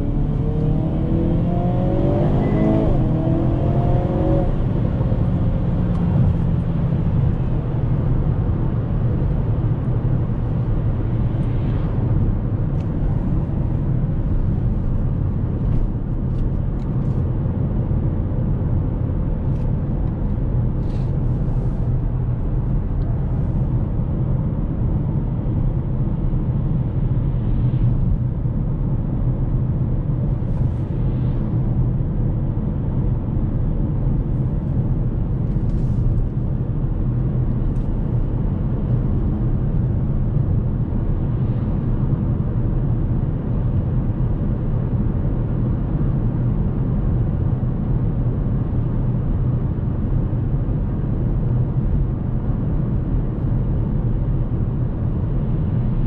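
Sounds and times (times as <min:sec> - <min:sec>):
car engine drone: 0:00.0 - 0:56.0
road and tyre noise: 0:00.0 - 0:56.0.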